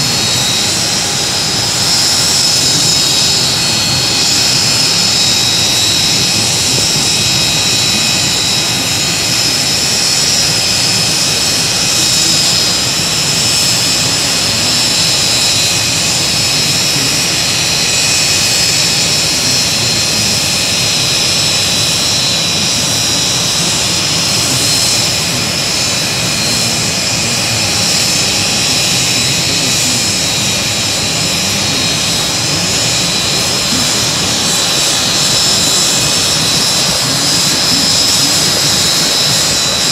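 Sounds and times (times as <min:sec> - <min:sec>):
aircraft turbine engine whine: 0:00.0 - 0:39.9.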